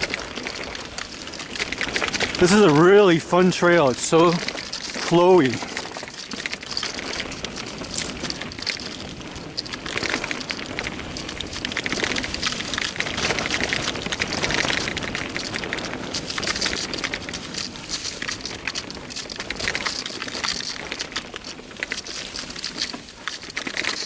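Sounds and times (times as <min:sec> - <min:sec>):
bicycle tyres rolling on dirt: 0:00.0 - 0:24.0.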